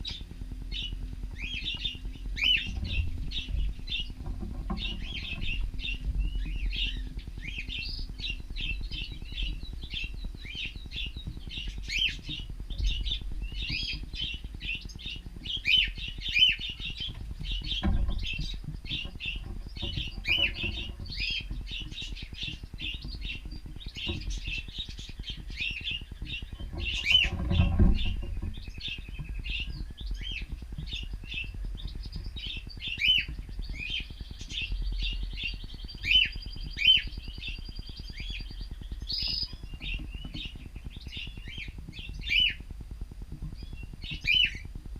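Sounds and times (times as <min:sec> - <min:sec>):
cockatiels chattering: 0:00.0 - 0:44.7.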